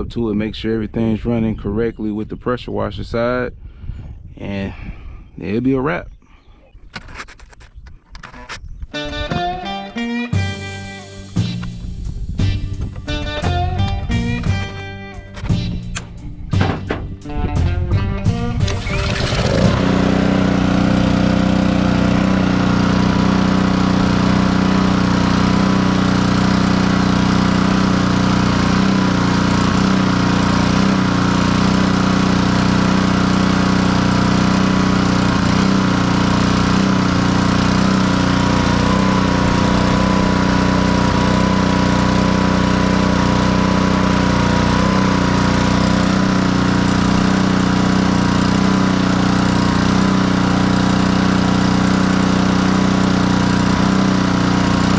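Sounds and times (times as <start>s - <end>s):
pressure washer engine running: 10.4s - 54.9s.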